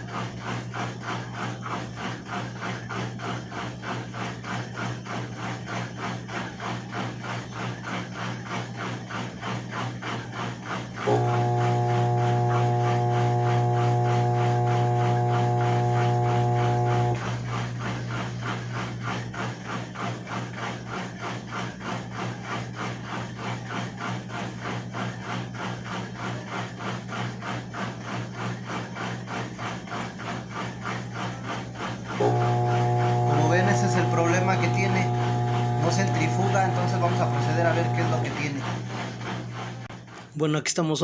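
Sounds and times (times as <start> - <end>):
scraping rub: 0.0 - 40.3
rhythmic mechanical noise: 0.0 - 41.0
washing machine motor hum: 0.0 - 41.0.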